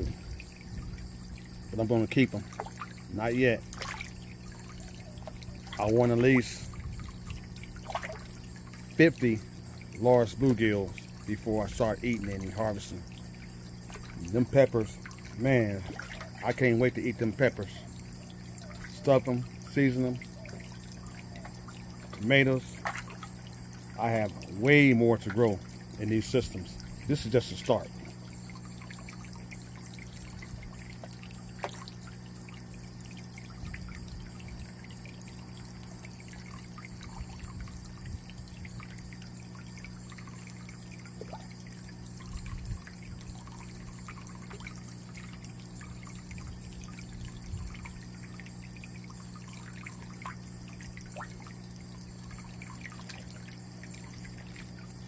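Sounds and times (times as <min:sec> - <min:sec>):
small water drips and splashes: 0:00.0 - 0:55.0
water pouring into tank: 0:00.0 - 0:55.0.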